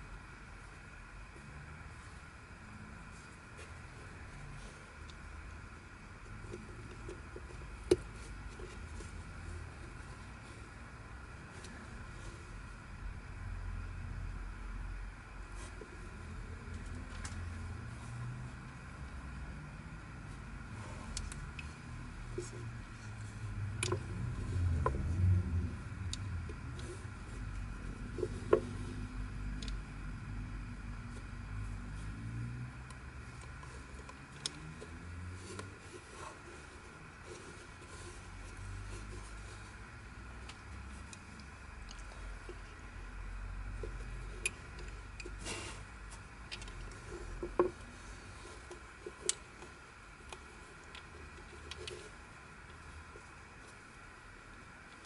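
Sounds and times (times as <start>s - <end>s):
low steady hum: 0.0s - 55.0s
low steady rumble: 0.0s - 55.0s.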